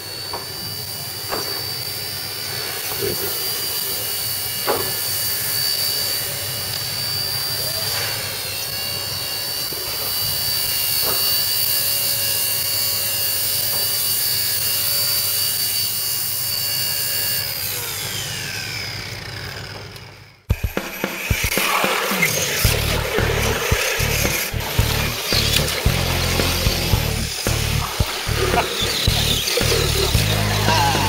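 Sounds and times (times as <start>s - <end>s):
toy helicopter rotor whining: 0.0s - 31.0s.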